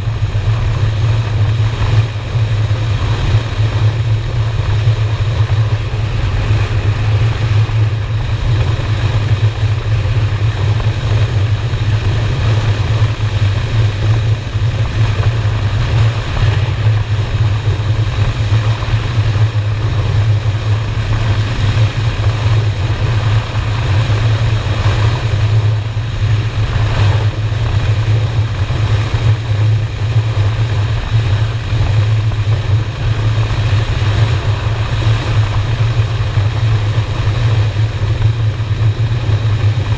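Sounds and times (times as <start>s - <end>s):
motorcycle engine droning: 0.0s - 39.9s
wind noise: 0.0s - 39.9s.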